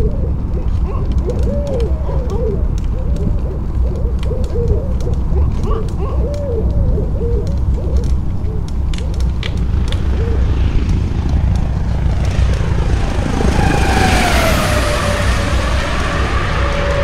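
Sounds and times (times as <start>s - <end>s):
bicycle tyres rumbling on pavement: 0.0s - 17.0s.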